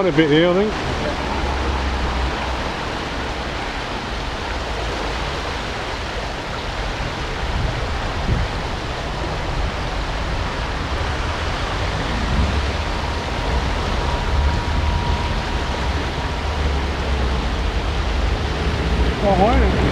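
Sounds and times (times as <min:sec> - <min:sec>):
river rushing: 0:00.0 - 0:19.9.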